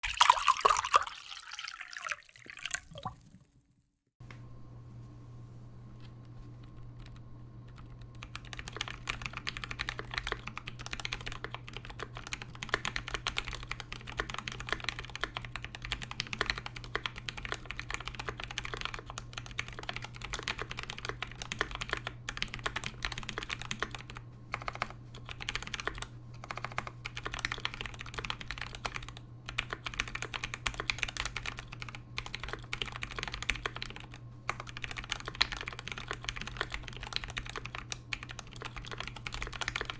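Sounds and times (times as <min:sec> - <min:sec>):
steady low hum: 0:04.2 - 0:39.9
typing on mechanical keyboard: 0:06.6 - 0:39.9.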